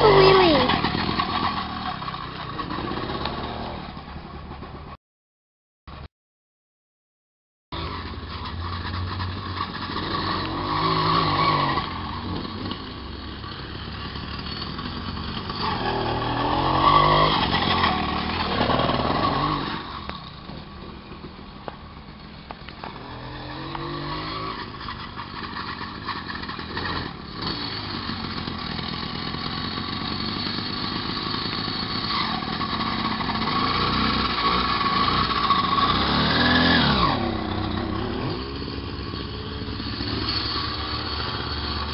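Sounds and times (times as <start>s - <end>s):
moped engine revving: 0.0s - 4.8s, 7.8s - 41.9s.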